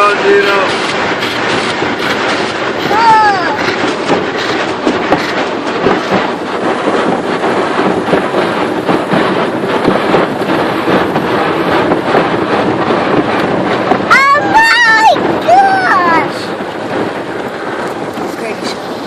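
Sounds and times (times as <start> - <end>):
car wash rushing: 0.0 - 19.0.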